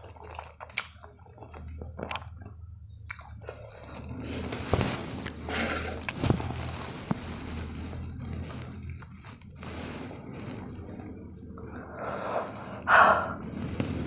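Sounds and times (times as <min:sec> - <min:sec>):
wet chewing sounds: 0:00.0 - 0:14.0.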